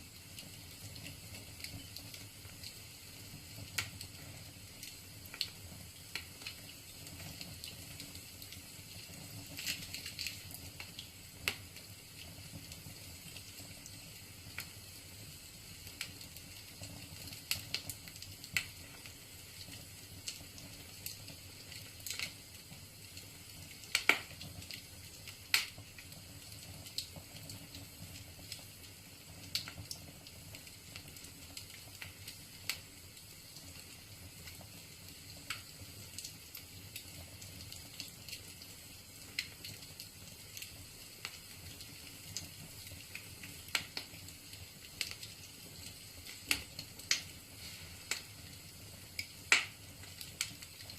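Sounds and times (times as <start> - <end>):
low hiss: 0.0 - 50.9
wood fire crackling: 0.0 - 50.9.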